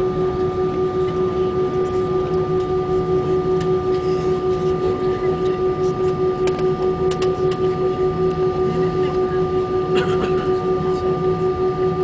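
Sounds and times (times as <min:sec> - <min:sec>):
jet engines humming in cabin: 0:00.0 - 0:12.0.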